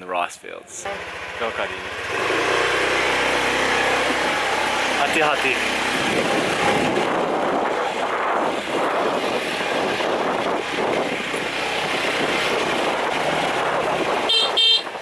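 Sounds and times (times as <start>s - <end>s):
road and vehicle noise: 0.0s - 15.0s.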